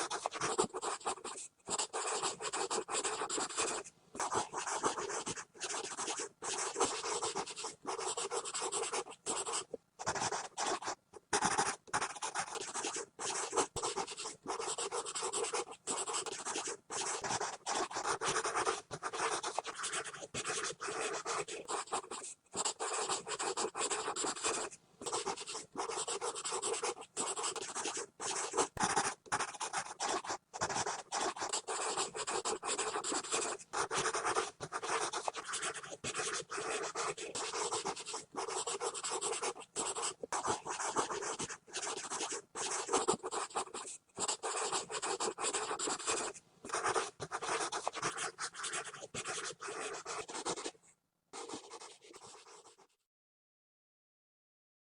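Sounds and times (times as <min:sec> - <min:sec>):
pencil scribbling on paper: 0:00.0 - 0:50.8, 0:51.4 - 0:53.0.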